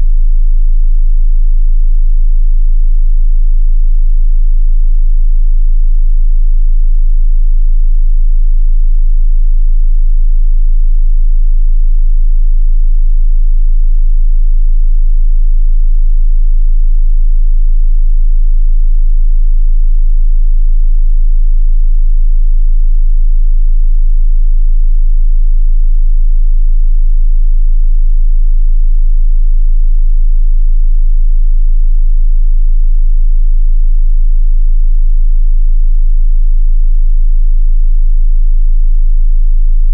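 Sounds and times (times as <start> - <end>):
deep sine-wave test tone: 0.0 - 39.9.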